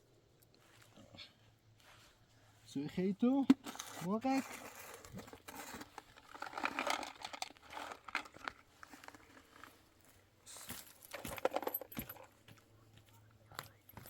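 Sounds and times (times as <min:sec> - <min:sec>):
rustling and crinkling handling: 0:01.7 - 0:14.0.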